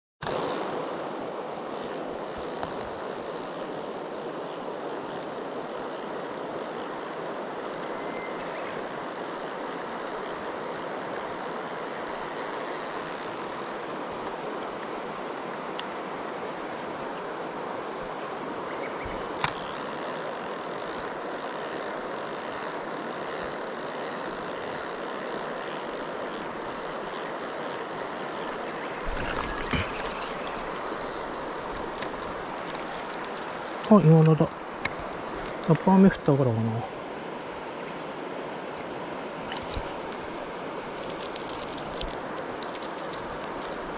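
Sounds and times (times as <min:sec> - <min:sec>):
stream water rushing: 0:00.2 - 0:43.9.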